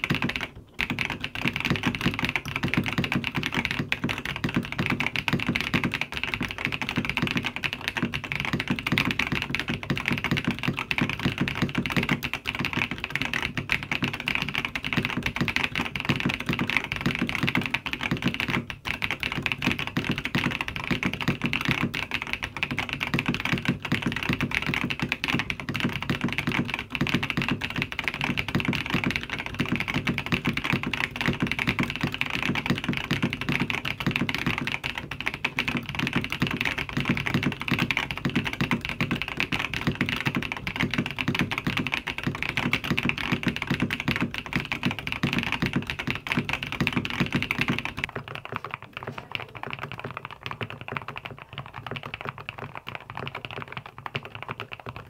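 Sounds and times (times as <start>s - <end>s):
typing on mechanical keyboard: 0.0s - 55.0s.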